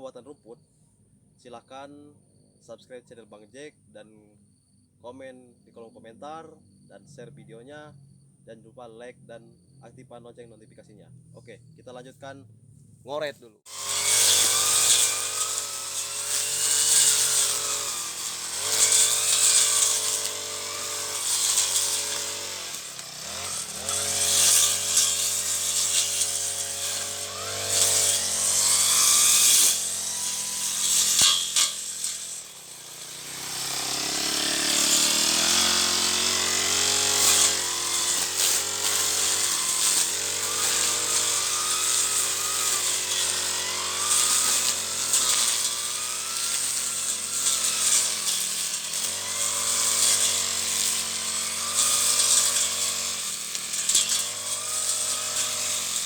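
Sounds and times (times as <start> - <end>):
brush cutter engine revving: 9.4 - 56.0.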